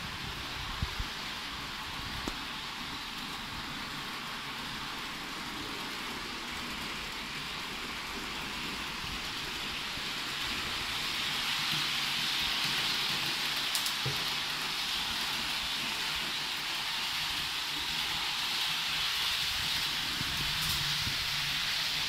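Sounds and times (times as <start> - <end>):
model train whirring: 0.0 - 22.0.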